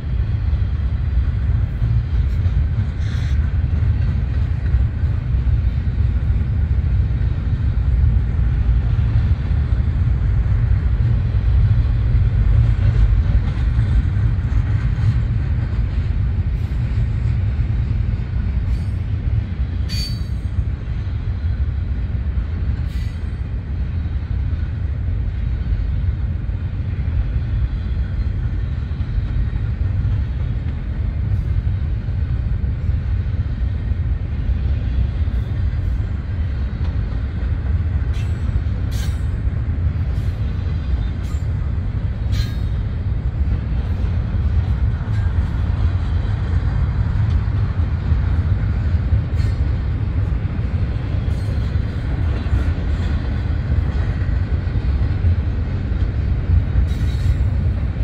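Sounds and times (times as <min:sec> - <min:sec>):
train cars rumbling past: 0:00.0 - 0:58.0.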